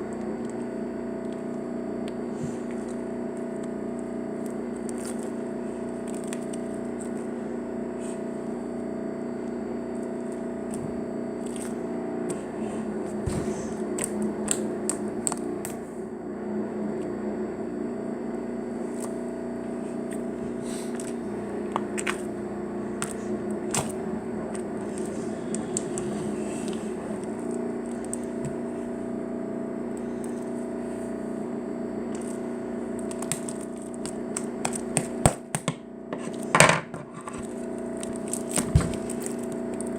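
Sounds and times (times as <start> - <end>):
steady background hum: 0.0 - 39.9.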